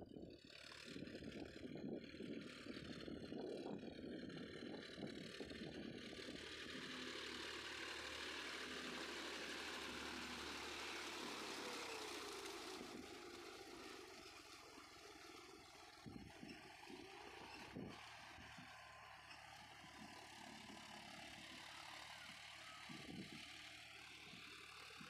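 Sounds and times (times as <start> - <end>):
tractor diesel engine running: 0.2 - 25.0.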